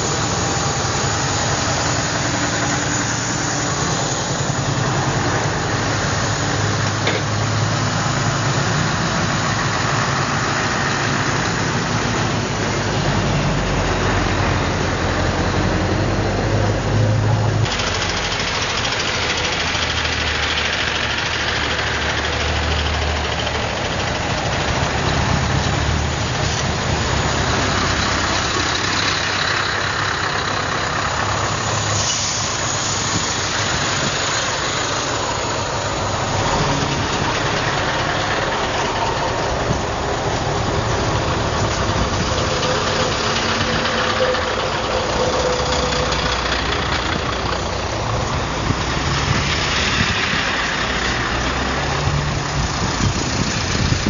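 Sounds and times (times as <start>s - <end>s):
heavy truck engines rumbling: 0.0s - 54.0s.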